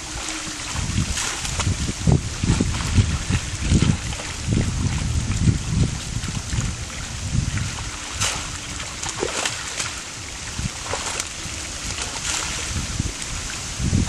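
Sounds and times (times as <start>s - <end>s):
fish thrashing and splashing water: 0.0s - 14.0s.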